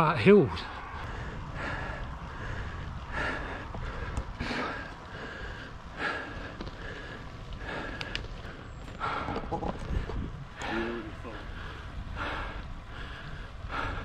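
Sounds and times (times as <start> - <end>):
wind rumble on microphone: 0.0 - 14.0
cyclist breathing hard: 0.5 - 14.0.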